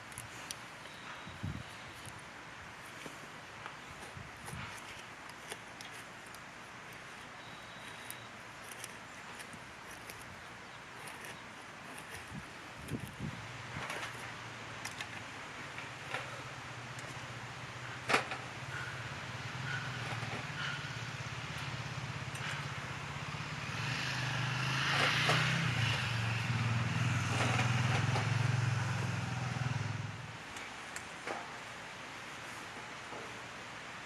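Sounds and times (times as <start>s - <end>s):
low engine hum: 0.0s - 30.6s.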